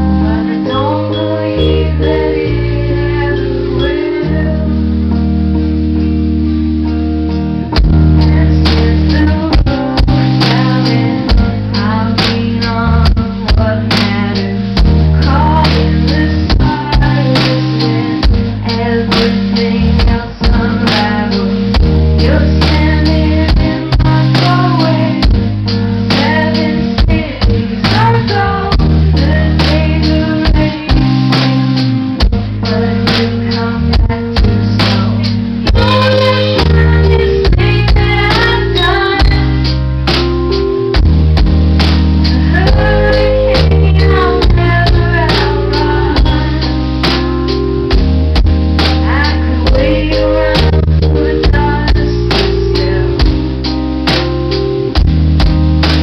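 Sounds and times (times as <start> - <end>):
woman singing: 0.0 - 5.2, 7.9 - 39.8, 42.3 - 47.4, 48.8 - 53.6
drum kit: 0.0 - 56.0
keyboard: 0.0 - 56.0.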